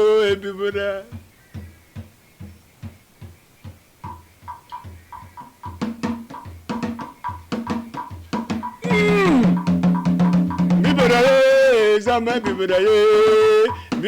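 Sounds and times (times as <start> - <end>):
drums played in steady rhythm: 0.0 - 14.0.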